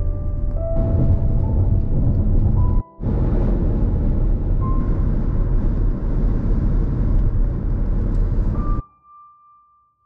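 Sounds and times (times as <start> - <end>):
car cabin road noise: 0.0 - 8.8.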